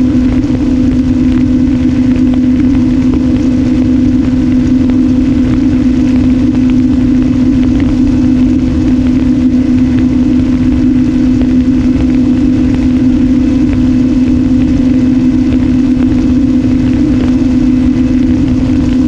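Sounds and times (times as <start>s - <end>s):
electric motor and propeller hum: 0.0s - 19.0s
wind rumble on microphone: 0.0s - 19.0s.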